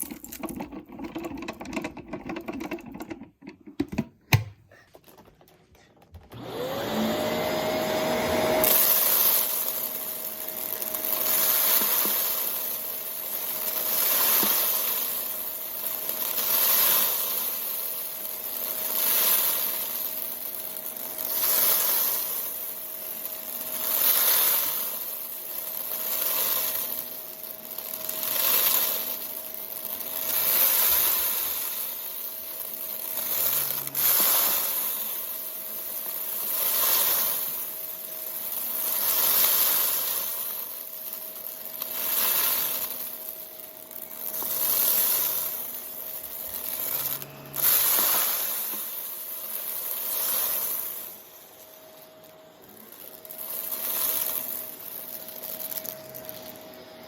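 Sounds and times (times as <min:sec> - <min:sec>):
vacuum cleaner motor whine: 0:06.1 - 0:17.0, 0:17.6 - 0:57.0.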